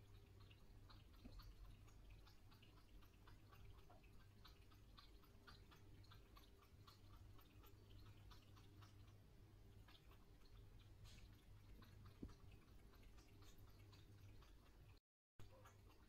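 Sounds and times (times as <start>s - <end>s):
cat lapping water: 0.0s - 16.0s.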